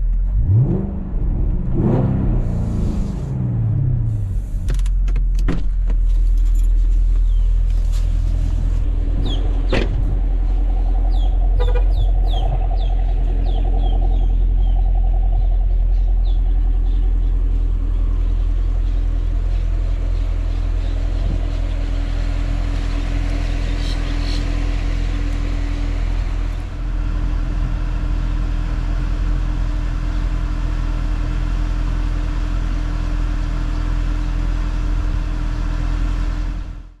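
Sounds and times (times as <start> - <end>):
car engine rumbling at low revs: 0.0 - 37.0.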